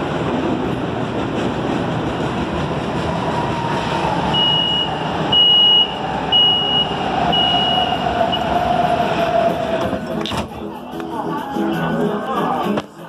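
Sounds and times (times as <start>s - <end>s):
rumble of running train: 0.0s - 13.0s.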